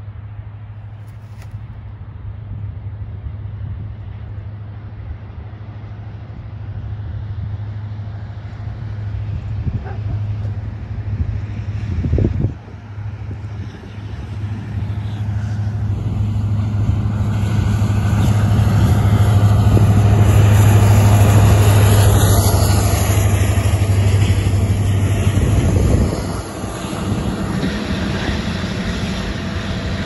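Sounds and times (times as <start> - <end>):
diesel locomotives passing: 0.0 - 30.0.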